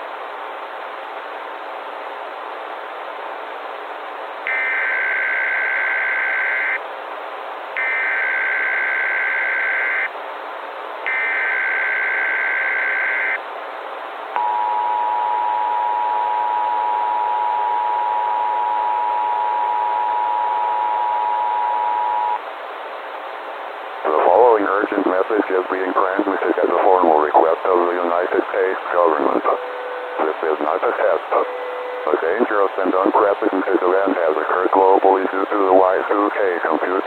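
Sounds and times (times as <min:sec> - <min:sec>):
constant hiss: 0:00.0 - 0:37.0.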